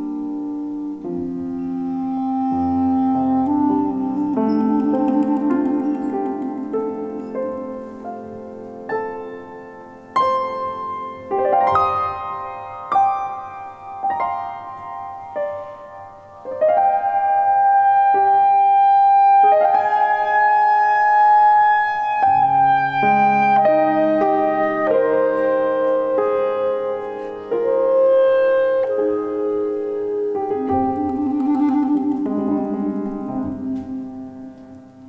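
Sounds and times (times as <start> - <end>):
clarinet melody: 0.0 - 35.0
piano chords: 0.0 - 35.0.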